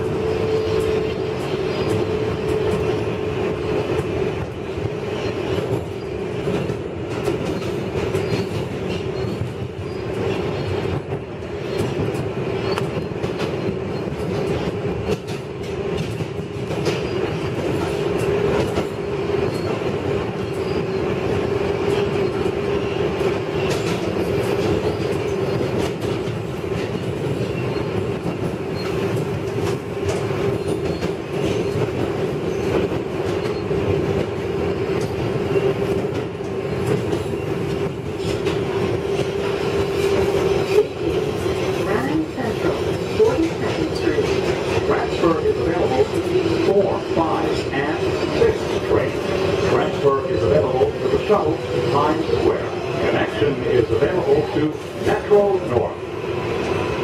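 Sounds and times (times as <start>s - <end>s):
subway train hum: 0.0s - 57.0s
wheels rumbling on rails: 0.0s - 57.0s.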